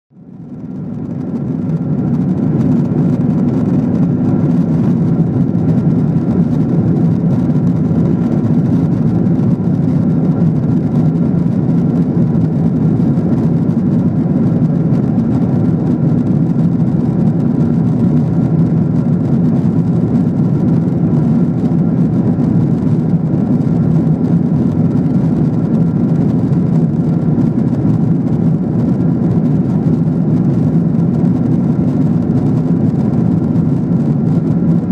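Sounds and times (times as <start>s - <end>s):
airplane cabin rumble: 0.1s - 34.9s
faint steady whine: 0.1s - 34.9s.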